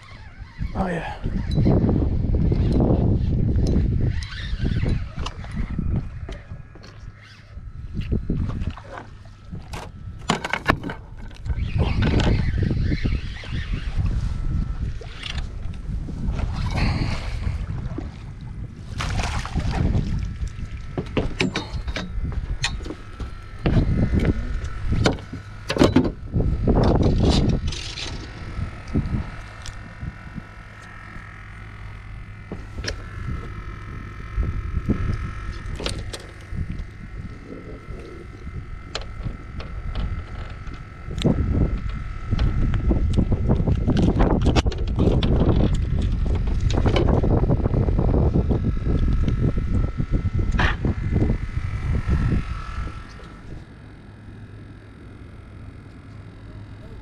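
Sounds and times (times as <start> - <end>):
faint steady whine: 0.0 - 57.0
wind rumble on microphone: 0.0 - 57.0.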